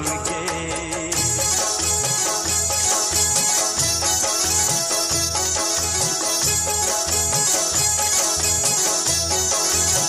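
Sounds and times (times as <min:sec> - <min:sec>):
instrumental film song music: 0:00.0 - 0:10.0.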